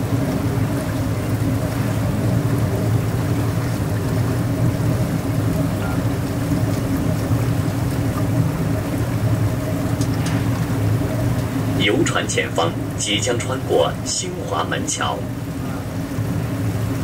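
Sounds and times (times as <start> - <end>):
boat motor humming: 0.0 - 17.0
wash of noise: 0.0 - 17.0.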